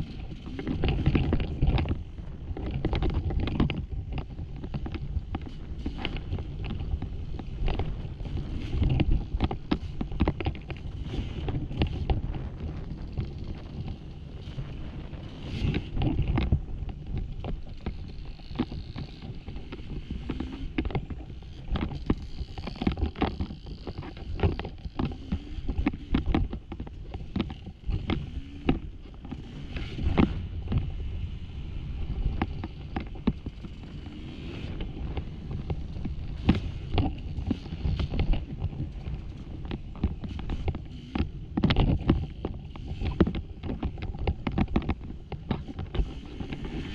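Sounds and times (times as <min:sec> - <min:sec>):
rocks knocking and clattering: 0:00.0 - 0:46.9.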